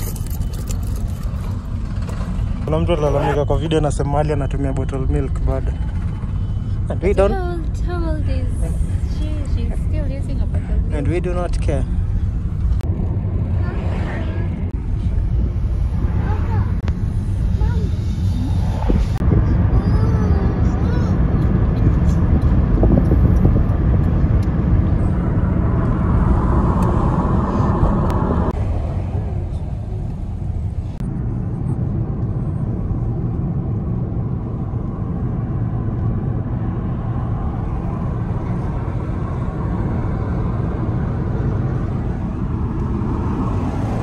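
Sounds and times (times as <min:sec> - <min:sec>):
car cabin road noise: 0:00.0 - 0:44.0.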